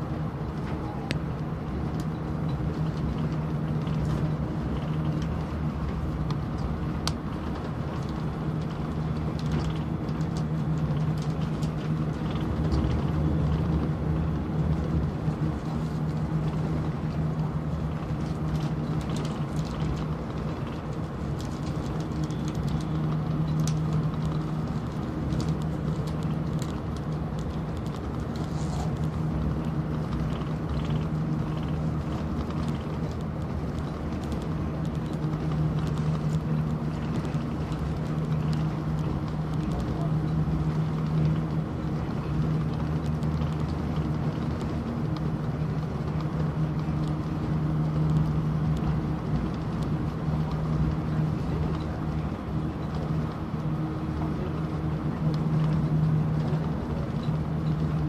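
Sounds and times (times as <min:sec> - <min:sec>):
constant low hum: 0:00.0 - 0:58.0
train cabin rumble: 0:00.0 - 0:58.0.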